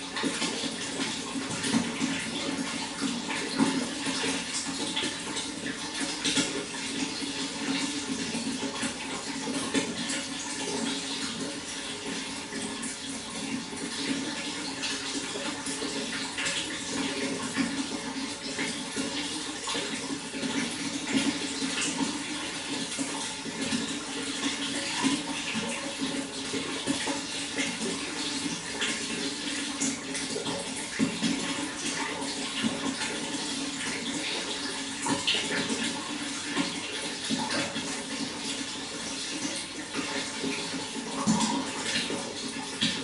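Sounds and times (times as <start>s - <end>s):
running water splashing: 0.0s - 43.0s.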